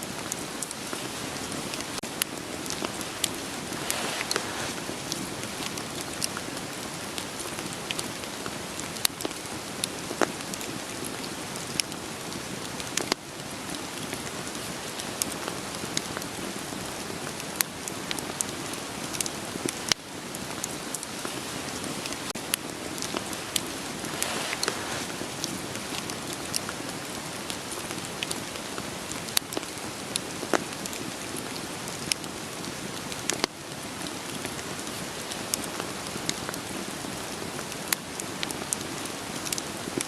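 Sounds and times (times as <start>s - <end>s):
steady rain falling: 0.0s - 40.0s
wood fire crackling: 0.1s - 40.0s.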